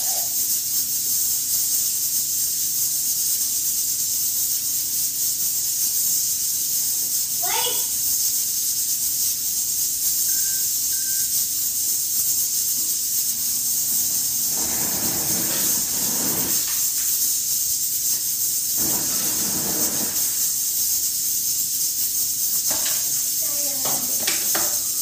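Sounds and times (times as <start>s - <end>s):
high-pitched hiss: 0.0s - 25.0s.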